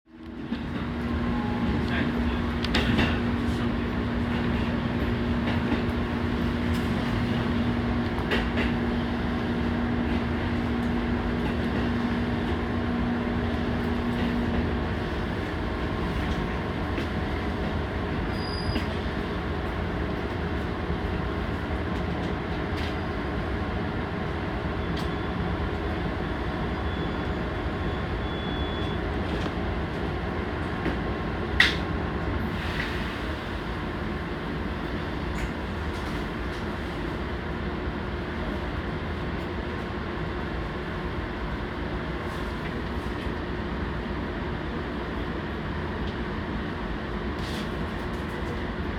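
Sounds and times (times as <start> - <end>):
train wheels rumbling: 0.1 - 39.9.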